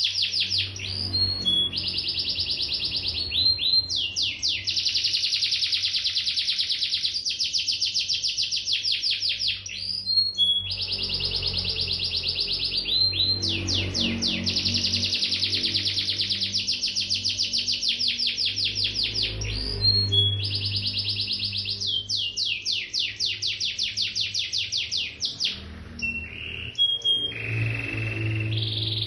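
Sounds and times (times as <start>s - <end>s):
canary chirps: 0.0s - 29.0s
canary trilling: 0.0s - 29.0s.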